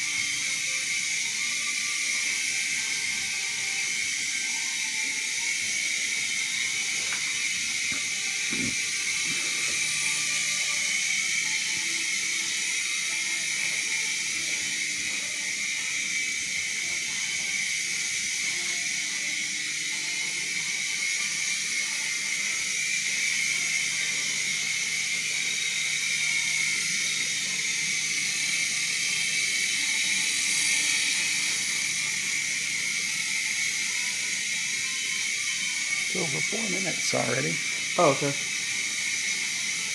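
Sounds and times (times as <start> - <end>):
toy helicopter motor whine: 0.0 - 39.9.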